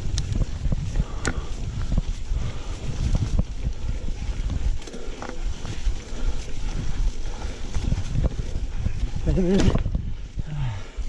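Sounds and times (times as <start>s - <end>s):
bike rattling over ground: 0.0s - 10.4s
wind rumbling on microphone: 0.0s - 11.0s.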